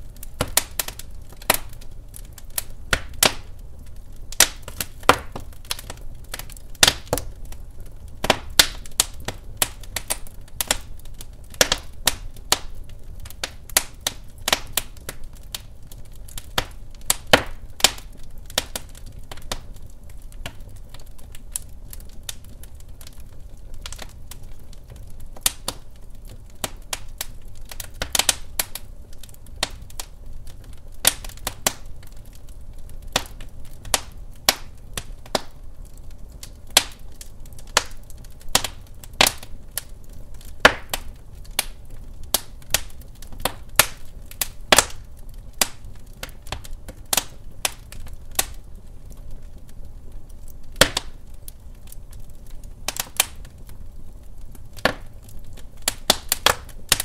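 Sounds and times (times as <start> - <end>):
burning logs crackling and popping: 0.0 - 57.0
rumble of flames: 0.0 - 57.0.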